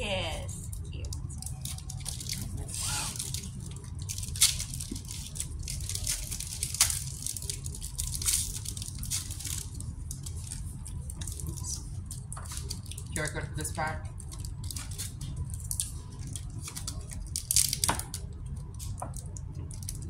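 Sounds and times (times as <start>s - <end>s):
steady low hum: 0.0s - 20.0s
foil wrapper crinkling and tearing: 0.6s - 20.0s.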